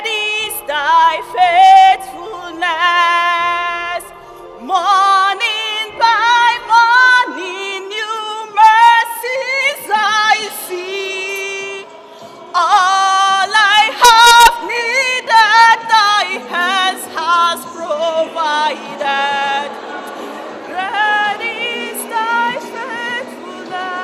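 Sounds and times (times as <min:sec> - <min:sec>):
woman singing: 0:00.0 - 0:11.9, 0:12.5 - 0:19.8, 0:20.6 - 0:24.0.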